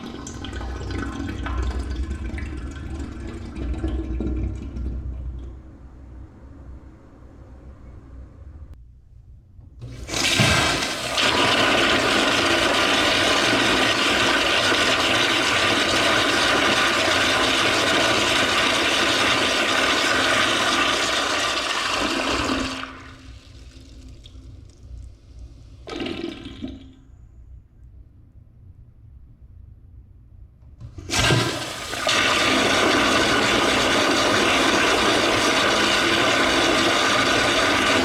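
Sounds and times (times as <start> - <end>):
toilet flushing: 0.0 - 6.0, 9.8 - 27.1, 30.8 - 38.0.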